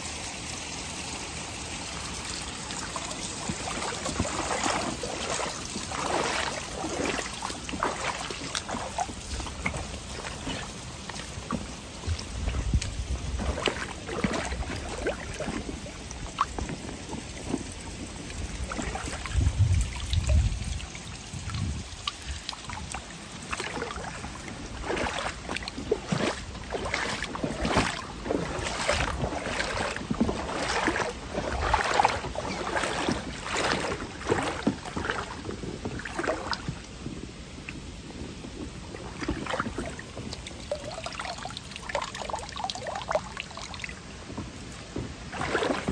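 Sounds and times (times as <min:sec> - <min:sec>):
water splashing from wading: 0:00.0 - 0:45.9.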